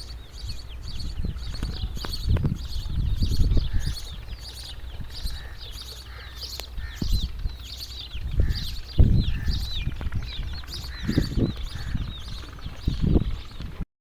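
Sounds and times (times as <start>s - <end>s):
low thumps and rumbles: 0.0s - 5.6s, 6.6s - 13.8s
chicks peeping: 0.0s - 13.6s.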